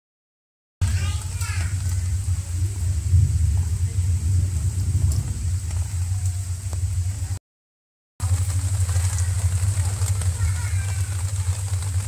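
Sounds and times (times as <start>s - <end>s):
heavy rain on concrete: 0.8s - 7.4s, 8.2s - 12.0s.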